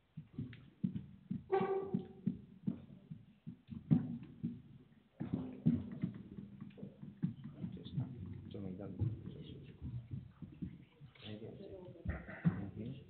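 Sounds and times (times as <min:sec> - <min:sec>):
footsteps on tiled floor: 0:00.0 - 0:12.8
chairs knocking: 0:00.2 - 0:11.1.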